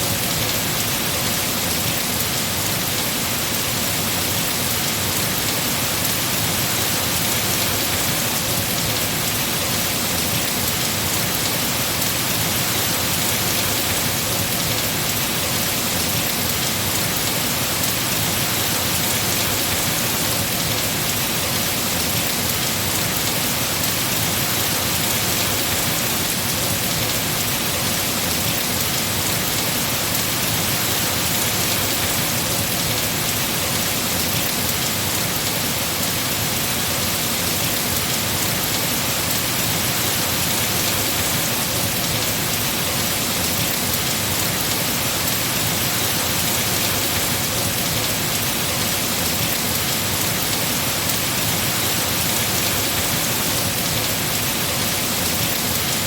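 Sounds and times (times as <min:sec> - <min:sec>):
heavy rain on foliage: 0:00.0 - 0:56.0.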